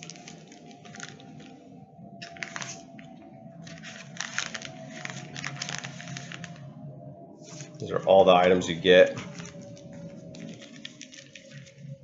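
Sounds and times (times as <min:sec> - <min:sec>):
faint steady hum: 0:00.0 - 0:12.0
rustling and crinkling of items: 0:00.0 - 0:12.0.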